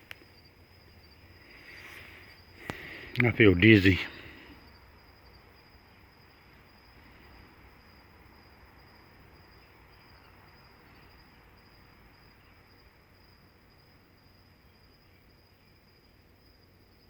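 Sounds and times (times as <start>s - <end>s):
high insect trill: 0.0s - 17.0s.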